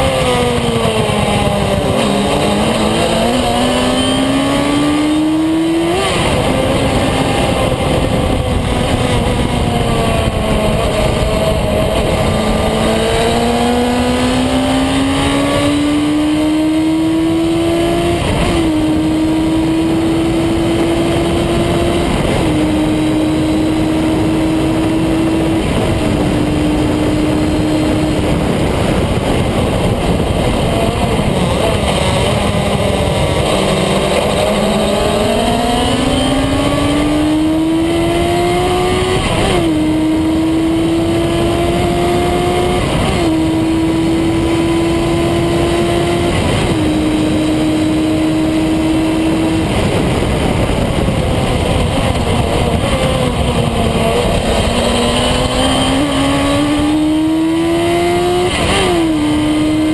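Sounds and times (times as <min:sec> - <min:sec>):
racing engine accelerating: 0:00.0 - 0:59.9
wind and road noise: 0:00.0 - 0:59.9.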